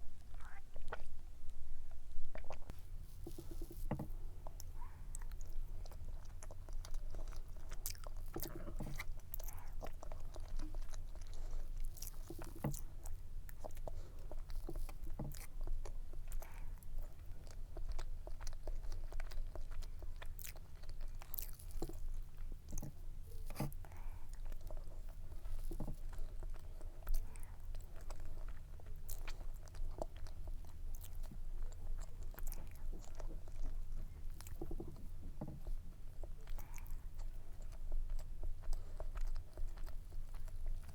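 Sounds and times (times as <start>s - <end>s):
chewing and biting cake: 2.3s - 40.9s.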